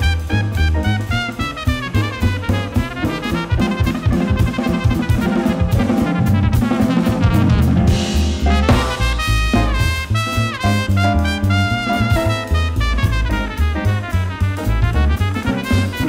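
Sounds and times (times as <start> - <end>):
jazz quartet playing: 0.0 - 16.0
trumpet: 0.0 - 16.0.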